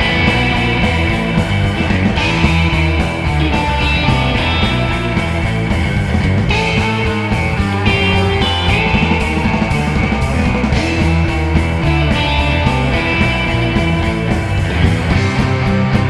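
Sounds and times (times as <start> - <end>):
drum kit: 0.0 - 16.0
electric bass: 0.0 - 16.0
electric guitar: 0.0 - 16.0.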